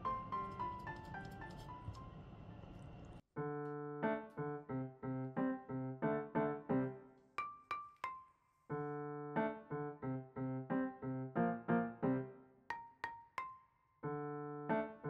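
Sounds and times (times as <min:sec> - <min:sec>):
light keyboard melody: 0:00.0 - 0:02.4, 0:03.4 - 0:15.0.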